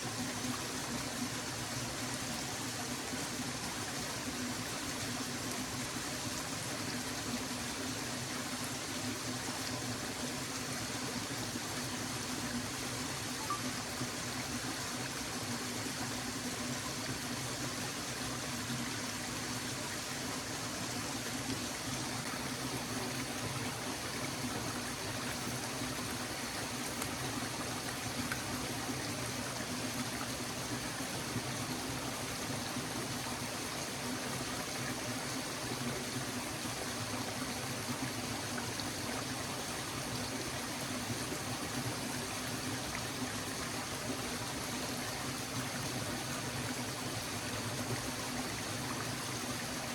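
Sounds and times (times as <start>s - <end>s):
stream flowing: 0.0s - 49.9s.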